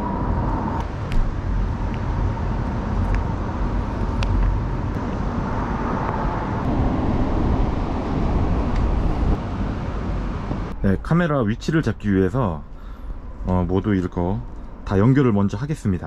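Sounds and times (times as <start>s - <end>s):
low rumbling outdoor noise: 0.0s - 16.0s.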